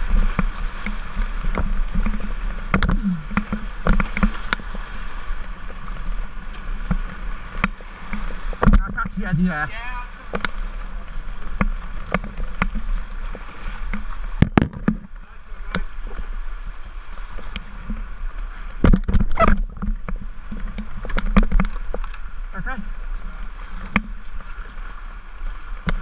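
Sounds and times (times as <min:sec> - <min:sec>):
paddle strokes knocking and splashing: 0:00.0 - 0:26.0
white water rushing: 0:00.0 - 0:26.0.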